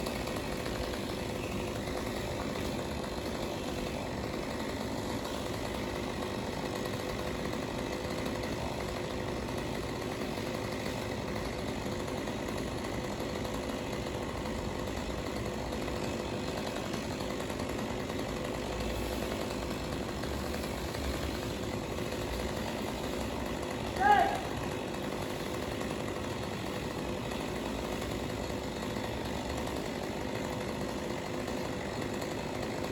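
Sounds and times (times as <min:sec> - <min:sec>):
power equipment engine running: 0:00.0 - 0:32.9.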